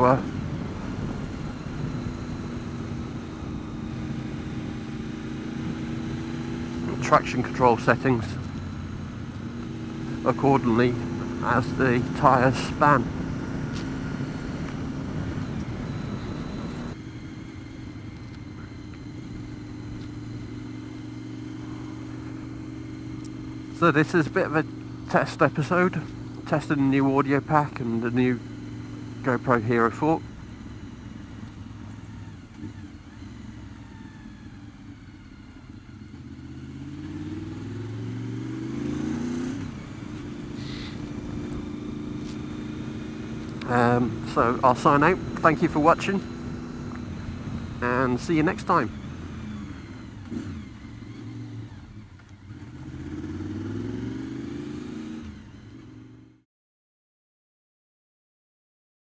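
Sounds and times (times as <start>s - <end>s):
riding noise: 0.0s - 55.8s
motorcycle engine running: 0.0s - 56.4s.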